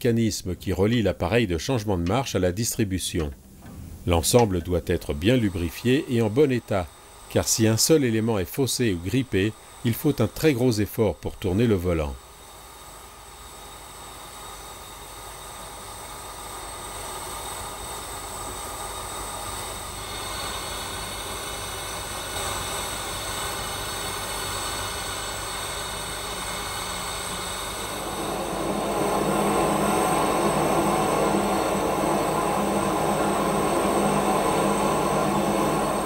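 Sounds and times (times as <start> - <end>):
steam locomotive hissing steam: 3.9 - 36.0.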